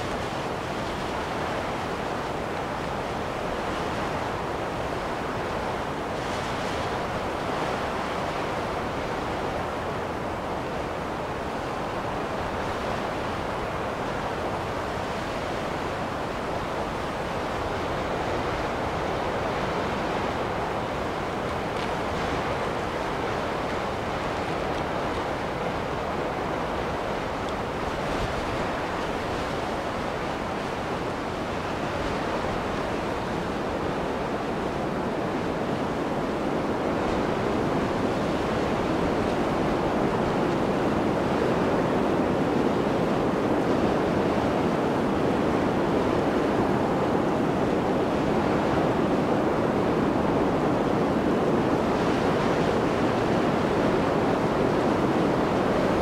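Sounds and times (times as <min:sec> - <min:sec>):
blizzard wind blowing: 0:00.0 - 0:56.0.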